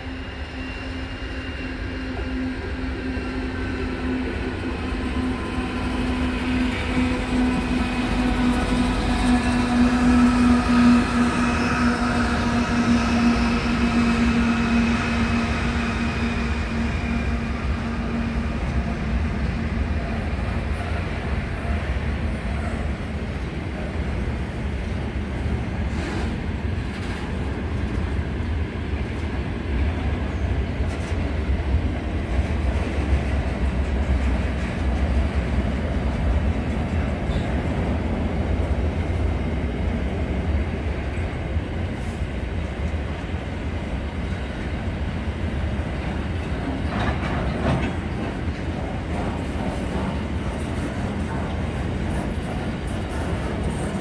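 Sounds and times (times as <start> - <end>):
freight train wagons rumbling: 0.0 - 54.0.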